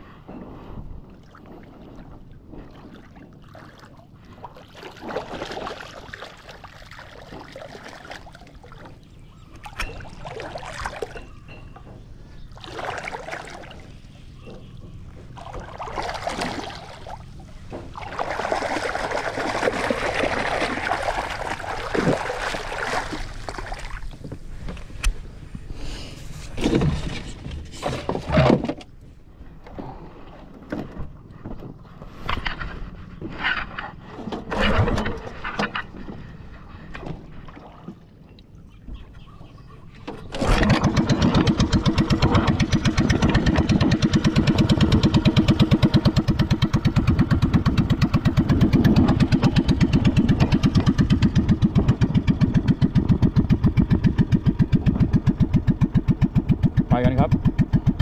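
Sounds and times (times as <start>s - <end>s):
shallow water sloshing and splashing: 0.6s - 58.0s.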